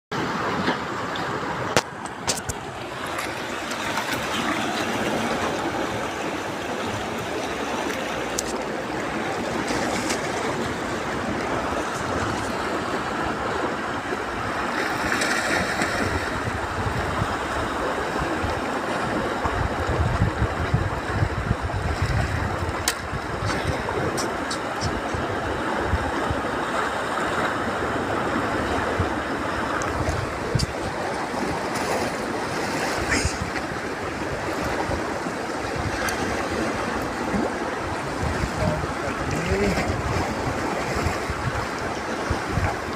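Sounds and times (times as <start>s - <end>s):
water rushing: 0.1s - 42.9s
wind buffeting microphone: 1.3s - 42.9s.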